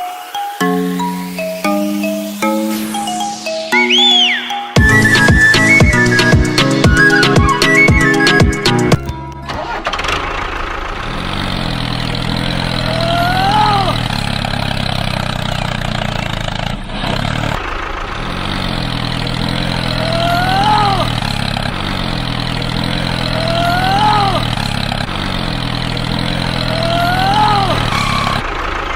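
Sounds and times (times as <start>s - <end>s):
curved squeal: 0.0s - 28.8s
tractor engine running: 0.0s - 28.9s.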